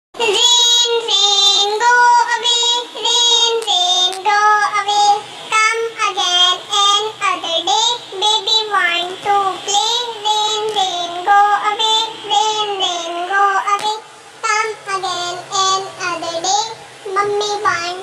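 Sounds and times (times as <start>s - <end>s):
child singing: 0.2s - 18.0s.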